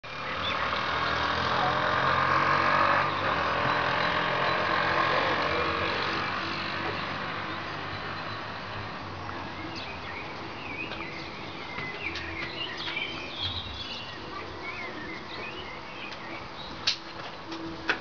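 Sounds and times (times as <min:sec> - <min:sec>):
vehicle driving past: 0:00.1 - 0:16.0.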